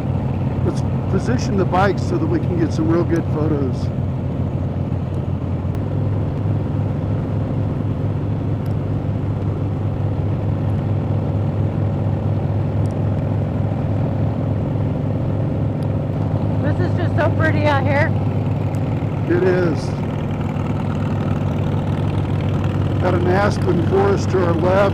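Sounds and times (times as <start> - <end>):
motorcycle engine drone: 0.0 - 24.9
road and wind noise: 0.0 - 24.9.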